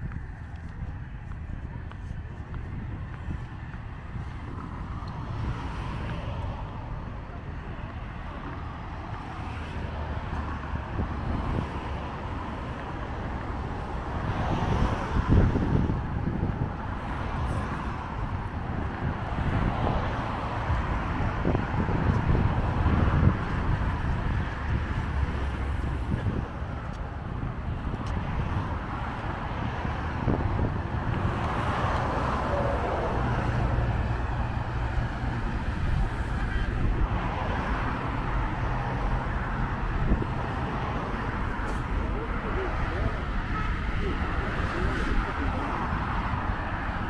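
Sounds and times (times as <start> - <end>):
cars passing on road: 0.0 - 47.0.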